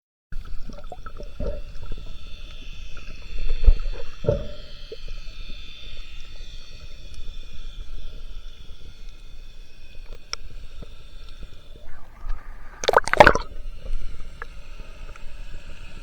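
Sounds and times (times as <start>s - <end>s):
faint whining: 0.4s - 16.0s
underwater hiss: 0.4s - 16.0s.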